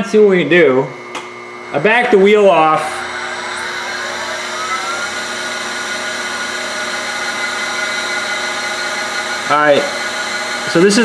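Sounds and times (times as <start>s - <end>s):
grinder motor whining: 0.6s - 11.0s.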